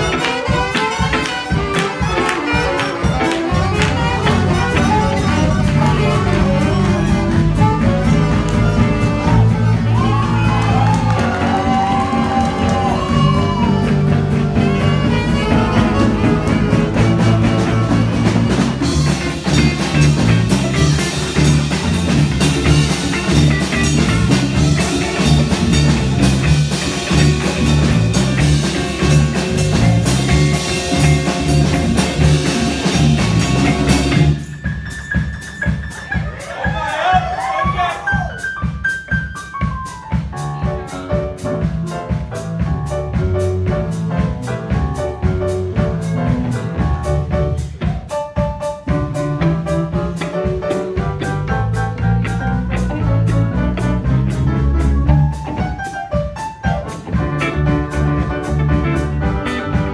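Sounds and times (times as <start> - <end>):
live jazz-funk band: 0.0 - 59.9.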